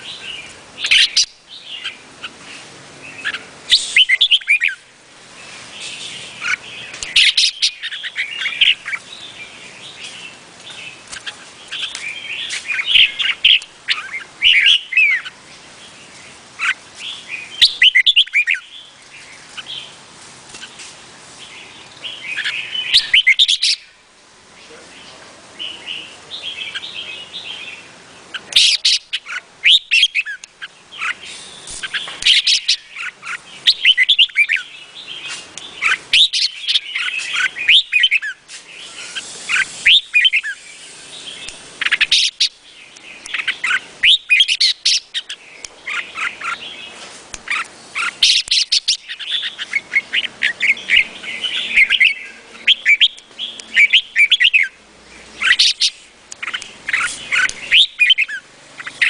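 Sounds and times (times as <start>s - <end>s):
bird chirping song: 0.0s - 59.0s.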